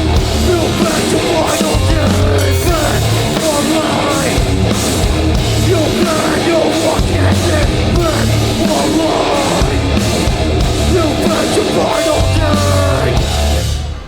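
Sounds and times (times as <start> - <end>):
shouted vocals: 0.0 - 13.8
punk band playing: 0.0 - 14.0.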